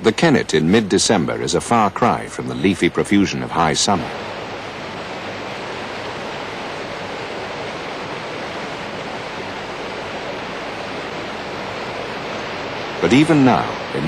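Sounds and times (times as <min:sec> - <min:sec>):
river rushing over a weir: 0:00.0 - 0:14.0.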